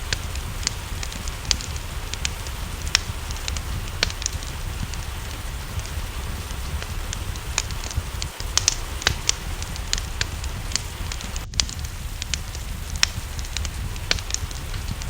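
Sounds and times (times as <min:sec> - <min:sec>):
rain falling: 0:00.0 - 0:15.0
wood fire crackling and popping: 0:00.0 - 0:15.0.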